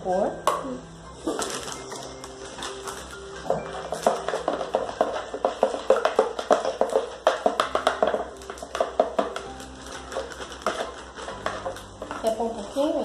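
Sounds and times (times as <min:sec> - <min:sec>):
background music: 0:00.0 - 0:13.0
plastic bag crinkling: 0:01.2 - 0:13.0
plastic spoon stirring in bucket: 0:01.2 - 0:13.0.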